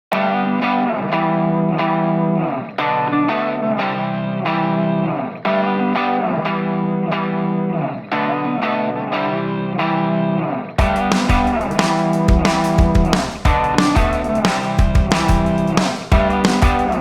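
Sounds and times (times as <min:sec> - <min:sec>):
guitar chords with effects: 0:00.1 - 0:17.0.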